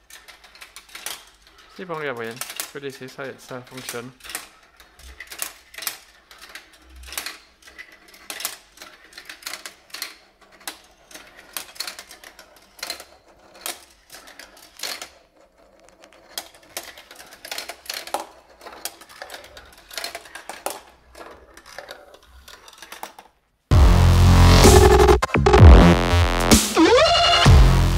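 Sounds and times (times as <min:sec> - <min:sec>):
marbles clattering down plastic track: 0:00.0 - 0:23.4.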